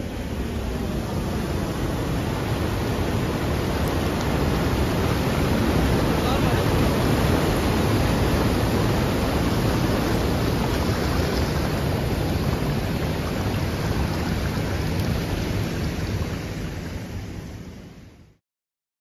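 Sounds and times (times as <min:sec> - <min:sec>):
water rushing over a weir: 0:00.0 - 0:18.2.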